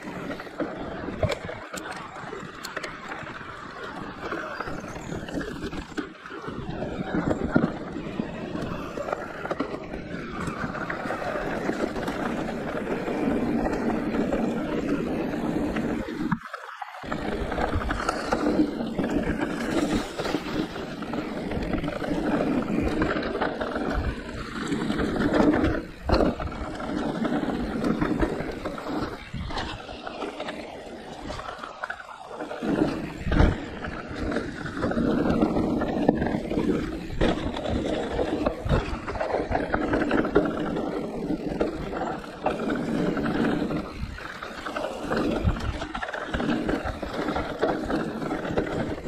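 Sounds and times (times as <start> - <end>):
bike tyres rolling over ground: 0.0 - 49.0.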